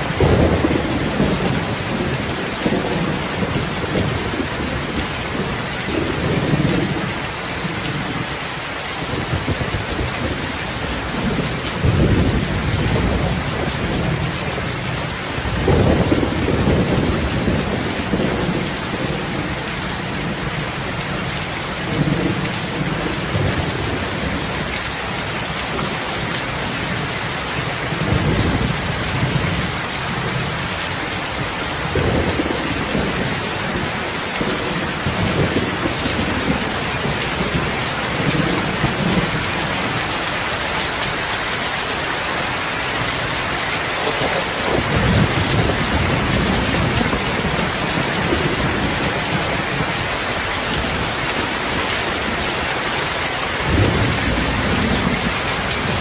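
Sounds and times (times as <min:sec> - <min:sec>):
thunder rumbling: 0:00.0 - 0:08.3, 0:09.0 - 0:41.2, 0:42.5 - 0:52.8, 0:53.4 - 0:56.0
heavy rain falling: 0:00.0 - 0:56.0.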